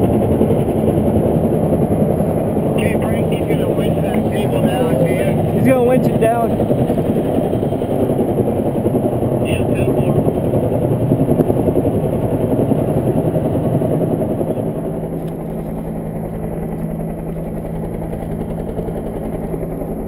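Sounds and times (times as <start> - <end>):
muffled motor running: 0.0 - 20.0.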